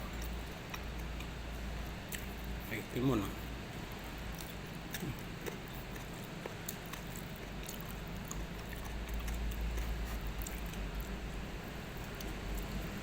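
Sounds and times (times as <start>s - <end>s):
person chewing: 0.0s - 2.7s, 3.9s - 13.0s.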